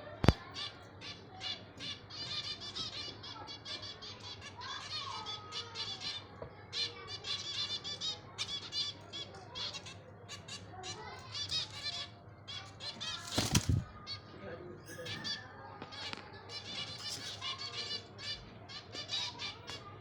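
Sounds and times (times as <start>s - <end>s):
parakeets chirping: 1.0s - 14.3s, 16.4s - 19.7s.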